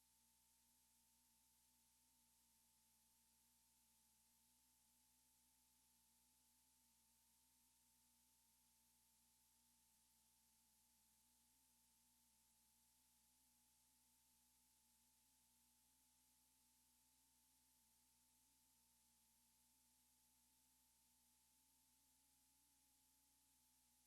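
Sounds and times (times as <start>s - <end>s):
faint steady hiss: 0.0s - 24.0s
faint two-tone hum: 0.0s - 24.0s.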